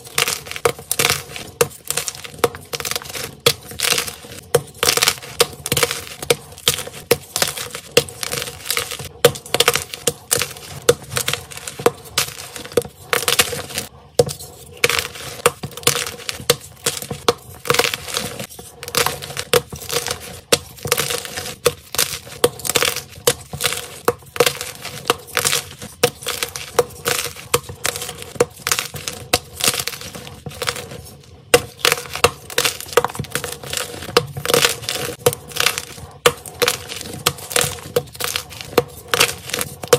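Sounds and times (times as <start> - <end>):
chalk blocks crunching and cracking: 0.0 - 39.9.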